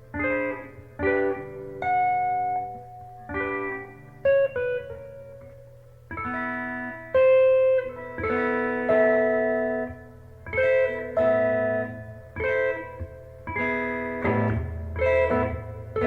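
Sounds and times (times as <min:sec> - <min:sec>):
guitar plucked notes and chords: 0:00.0 - 0:16.0.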